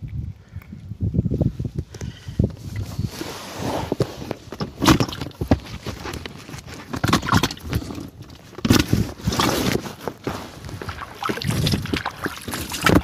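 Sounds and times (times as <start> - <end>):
handling noise on microphone: 1.7 - 13.0.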